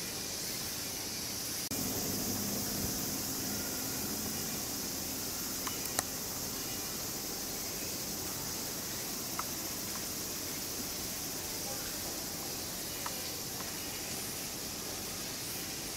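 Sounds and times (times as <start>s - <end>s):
high-pitched insect chorus: 0.0s - 15.9s.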